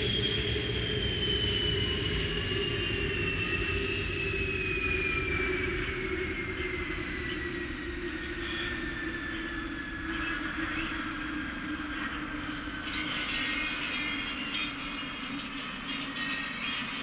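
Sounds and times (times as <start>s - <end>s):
jet engine whine: 0.0s - 17.0s.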